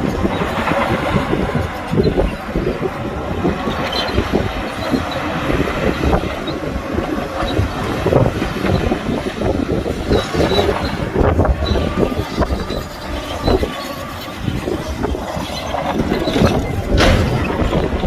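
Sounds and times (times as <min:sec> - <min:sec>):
diesel engine running: 0:00.0 - 0:18.0
steel tracks clanking: 0:00.0 - 0:18.0
high squeaks: 0:03.5 - 0:18.0.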